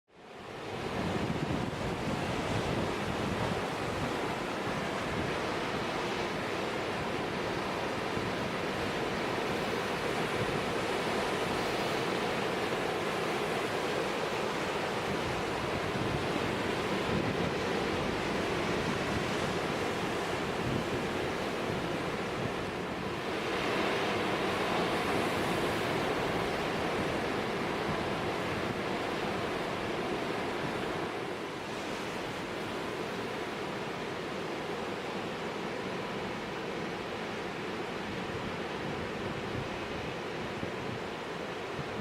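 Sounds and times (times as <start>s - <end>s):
wind buffeting microphone: 0.6s - 12.5s, 14.8s - 32.7s, 38.1s - 42.0s.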